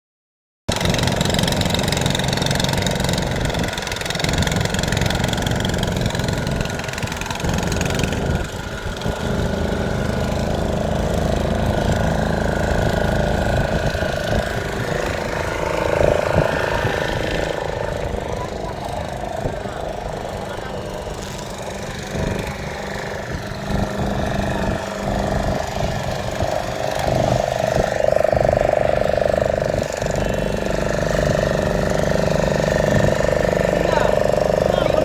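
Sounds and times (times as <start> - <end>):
boat engine droning: 0.7 - 35.0.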